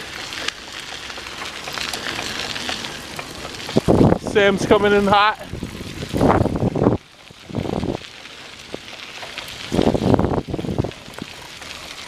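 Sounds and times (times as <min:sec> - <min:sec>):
wind buffeting microphone: 0:01.4 - 0:12.0.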